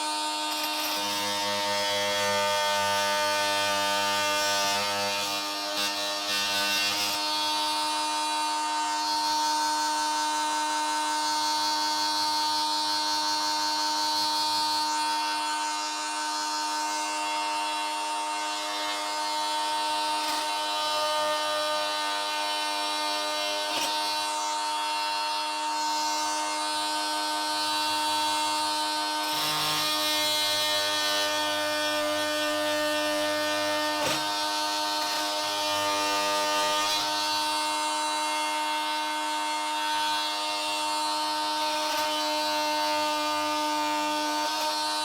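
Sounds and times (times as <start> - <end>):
handheld power tool buzzing: 0.0 - 45.0.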